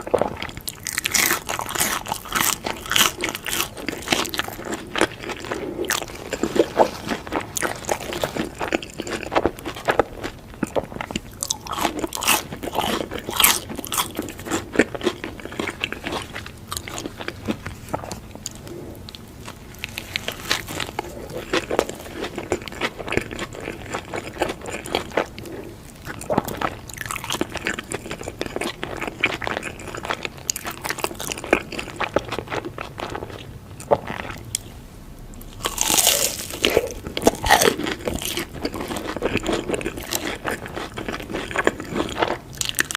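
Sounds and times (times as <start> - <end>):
crunchy bites and chewing: 0.0 - 34.7, 35.4 - 42.9.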